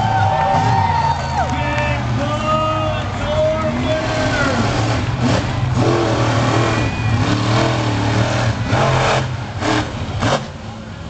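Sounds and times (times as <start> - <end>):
monster truck engines revving: 0.0 - 11.0.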